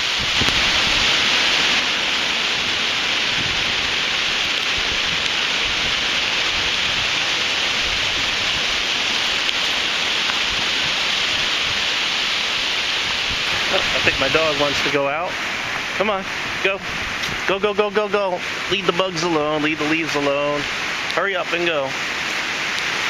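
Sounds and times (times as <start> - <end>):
rain hiss: 0.0 - 23.0
storm wind: 0.0 - 23.0.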